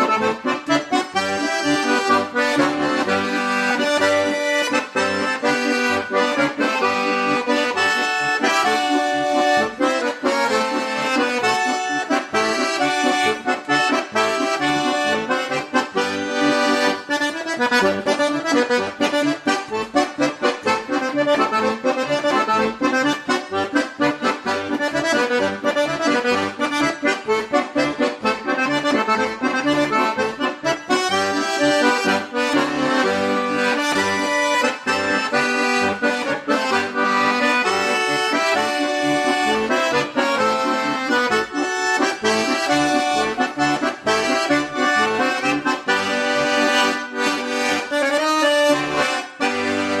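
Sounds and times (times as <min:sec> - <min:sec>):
accordion music with beat: 0:00.0 - 0:50.0.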